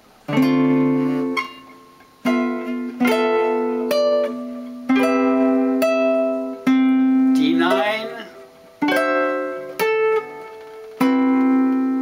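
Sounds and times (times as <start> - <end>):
nylon-string guitar fingerstyle: 0.0 - 12.0.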